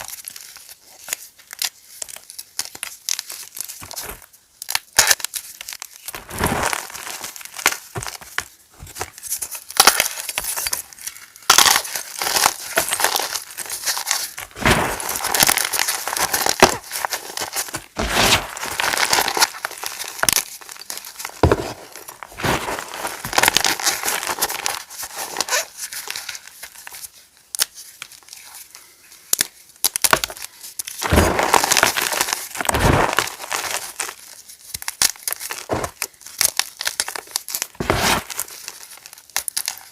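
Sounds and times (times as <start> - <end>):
chalk crushing crackle: 0.0 - 28.8, 29.4 - 39.9.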